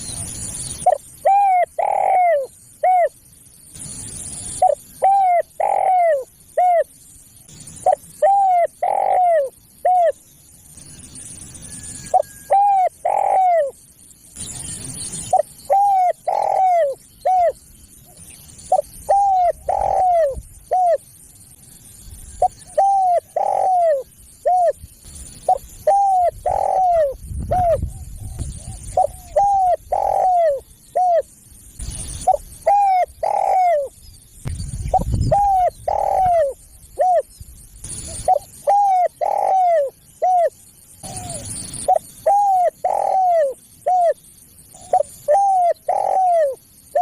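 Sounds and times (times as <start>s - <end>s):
dove cooing: 0.0s - 3.2s, 4.3s - 6.9s, 7.8s - 10.2s, 12.1s - 13.8s, 15.2s - 21.1s, 22.4s - 24.8s, 25.4s - 33.9s, 34.9s - 37.3s, 37.9s - 47.0s.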